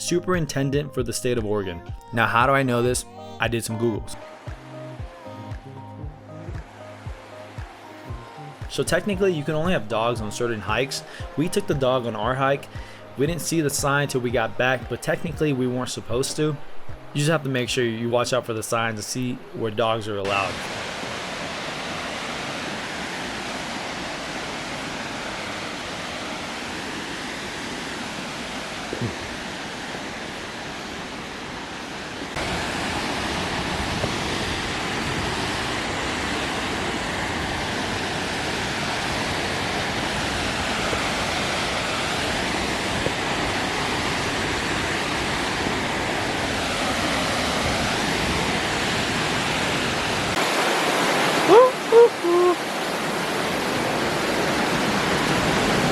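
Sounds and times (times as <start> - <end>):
waterfall and creek rushing: 0.0 - 55.9.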